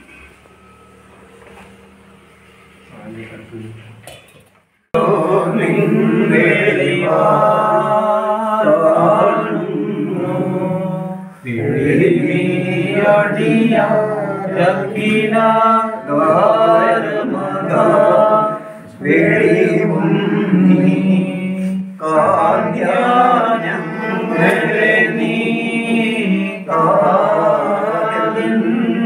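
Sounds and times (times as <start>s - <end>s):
voices chanting a hymn: 4.9s - 29.0s.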